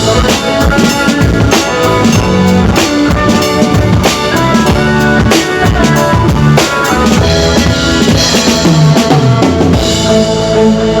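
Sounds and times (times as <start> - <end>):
music with bass: 0.0 - 11.0.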